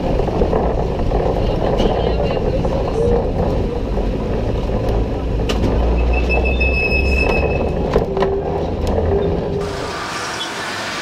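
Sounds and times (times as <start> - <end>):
tram rumbling on rails: 0.0 - 11.0
wheels squealing: 0.0 - 11.0.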